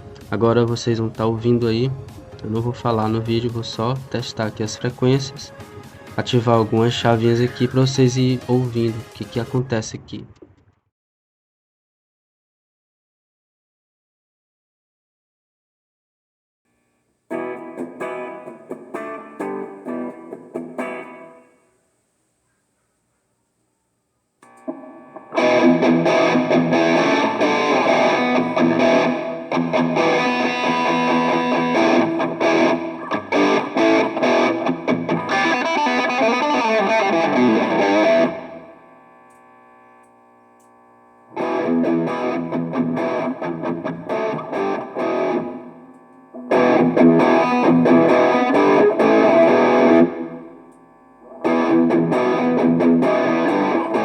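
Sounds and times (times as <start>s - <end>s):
distorted electric guitar riffs: 0.0s - 9.8s, 17.3s - 21.8s, 24.4s - 54.0s.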